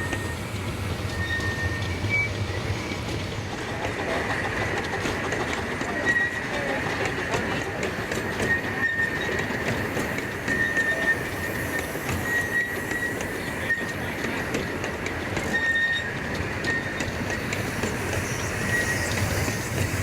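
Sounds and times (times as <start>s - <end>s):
miniature train wheels rumbling: 0.0s - 20.0s
train wheels squealing: 0.0s - 20.0s.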